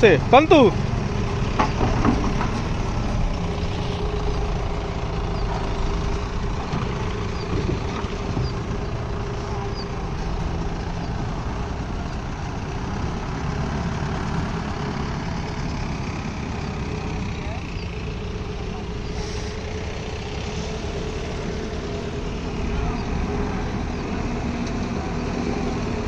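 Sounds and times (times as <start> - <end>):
large diesel engine running: 0.0 - 26.0.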